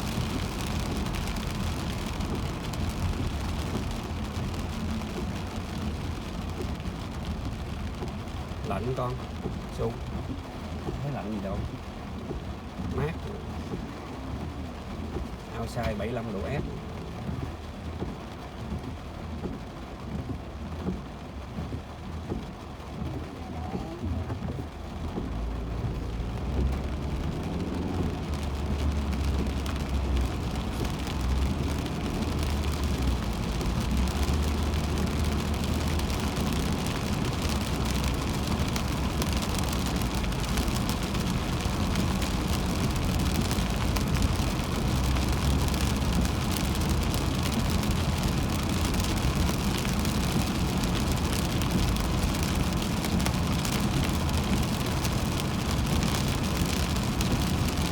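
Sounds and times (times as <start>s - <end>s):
low road rumble: 0.0s - 57.9s
rain hitting a car: 0.0s - 57.9s
tyres hissing on wet road: 0.0s - 57.9s.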